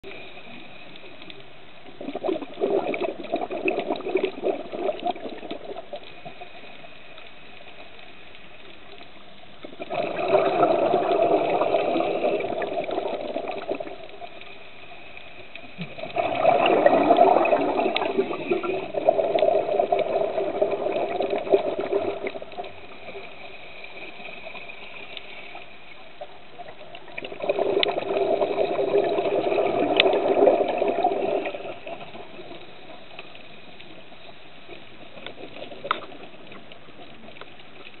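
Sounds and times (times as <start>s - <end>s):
scuba exhaust bubbles: 0.0s - 7.0s, 9.6s - 38.0s
quiet steady hiss: 0.0s - 38.0s.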